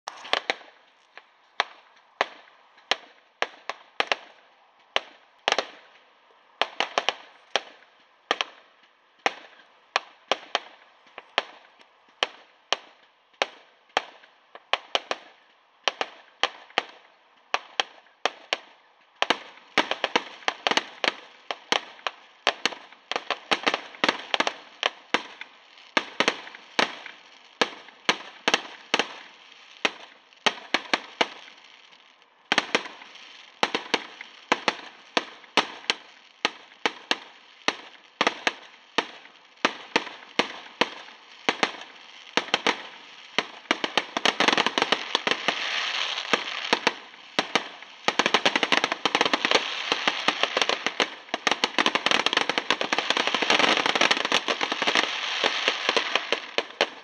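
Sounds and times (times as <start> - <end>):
fireworks popping and cracking: 0.0 - 57.0.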